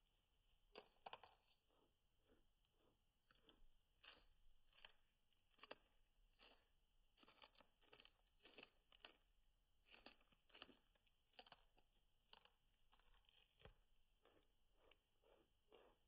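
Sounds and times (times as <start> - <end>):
guinea pig crunching lettuce: 0.7 - 16.0.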